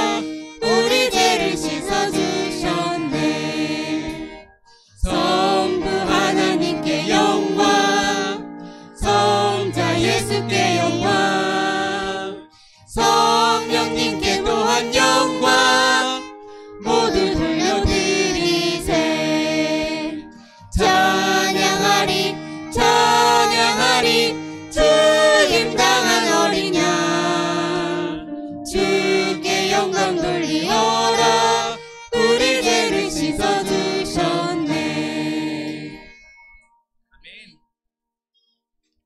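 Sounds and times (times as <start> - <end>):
woman singing: 0.0 - 4.3, 5.0 - 8.4, 9.0 - 34.9
violin: 0.0 - 36.0.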